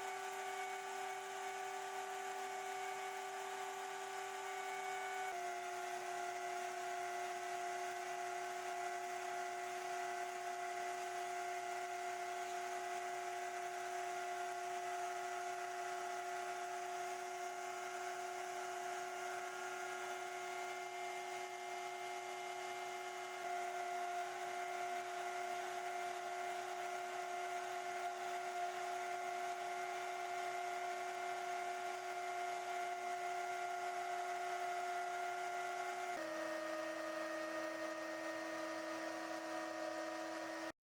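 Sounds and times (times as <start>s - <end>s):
power tool motor humming: 0.0s - 40.7s.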